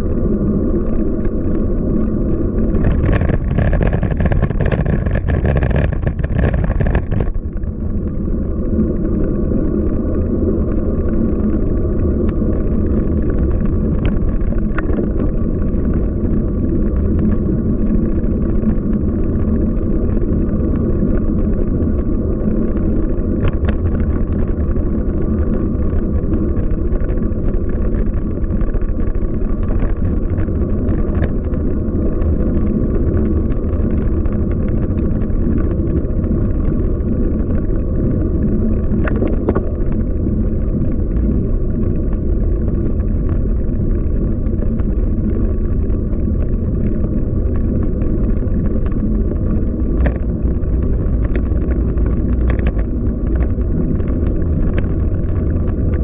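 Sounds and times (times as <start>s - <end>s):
bike road rumble: 0.0s - 56.0s
wind noise on microphone: 0.0s - 56.0s.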